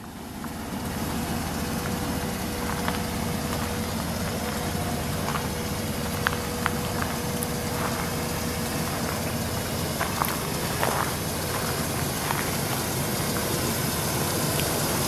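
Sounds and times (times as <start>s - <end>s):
motor running with low rumble: 0.0s - 15.0s.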